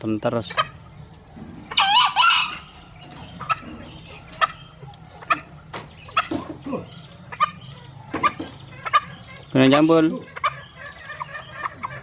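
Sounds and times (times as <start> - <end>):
junglefowl clucking: 0.2 - 12.0.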